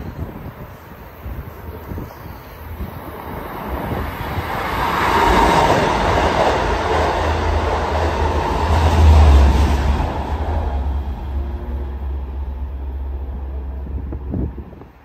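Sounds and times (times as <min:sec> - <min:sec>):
deep rumble of train: 0:00.0 - 0:15.0
train passing at speed: 0:00.0 - 0:15.0.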